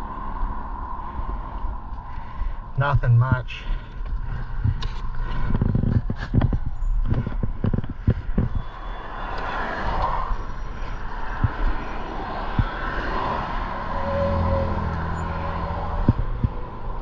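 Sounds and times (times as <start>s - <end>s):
road traffic passing: 0.0s - 17.0s
vehicle engine drone: 0.0s - 17.0s.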